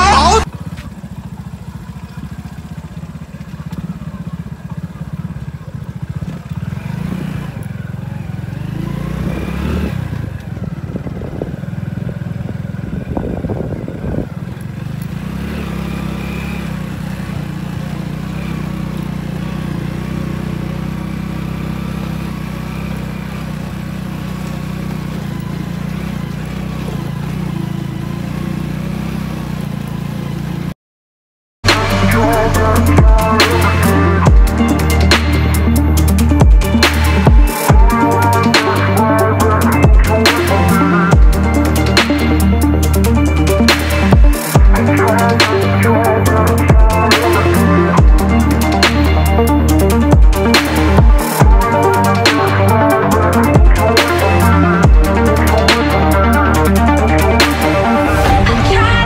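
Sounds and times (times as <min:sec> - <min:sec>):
motorcycle engine running: 0:00.0 - 0:30.8, 0:31.6 - 0:59.0.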